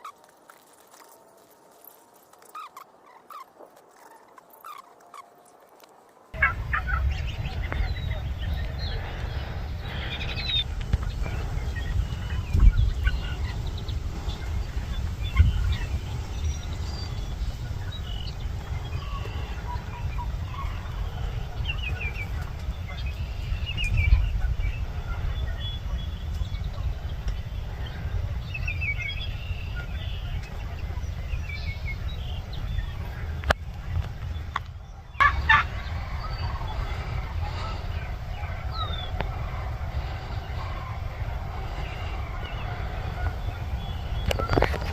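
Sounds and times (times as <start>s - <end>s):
turkeys gobbling: 0.0s - 44.9s
low rumble: 6.4s - 44.9s.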